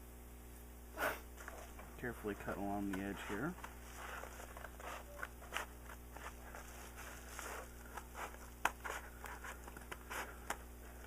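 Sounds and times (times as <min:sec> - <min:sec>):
scraping and rustling: 0:01.2 - 0:11.0.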